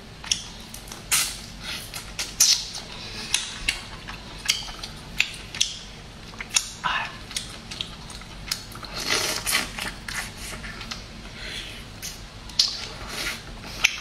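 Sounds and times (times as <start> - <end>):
wet smacking and chewing: 0.2 - 11.1, 12.0 - 14.0.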